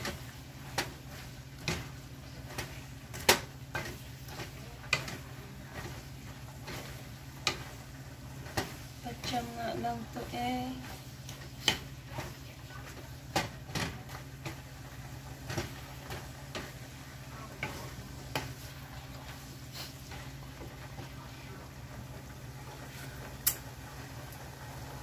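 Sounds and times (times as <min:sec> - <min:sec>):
wooden spatula scraping a pan: 0:00.0 - 0:21.3.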